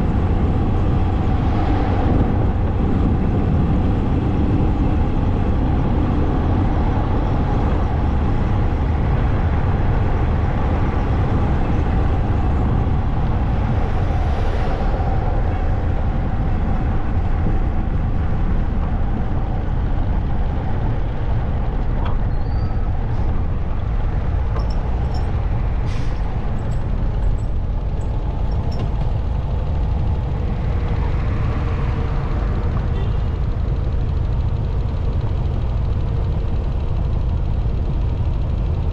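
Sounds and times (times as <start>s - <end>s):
road noise: 0.0s - 38.9s.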